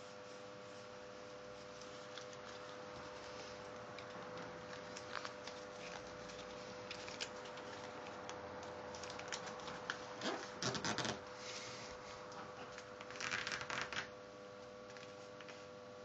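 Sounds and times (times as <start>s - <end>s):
paper folding and crinkling: 1.4s - 14.1s, 14.9s - 15.7s.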